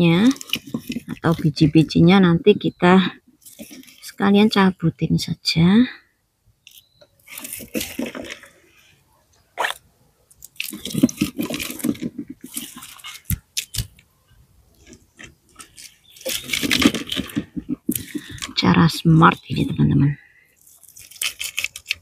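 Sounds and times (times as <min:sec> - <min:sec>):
dry plants rustling and crackling: 0:00.0 - 0:02.2, 0:03.3 - 0:04.7, 0:06.6 - 0:09.0, 0:09.6 - 0:14.1, 0:14.7 - 0:22.0.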